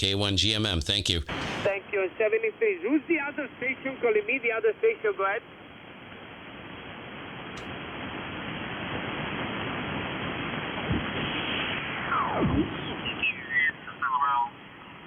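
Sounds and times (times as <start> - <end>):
radio static hiss: 0.0 - 8.2, 10.7 - 15.0.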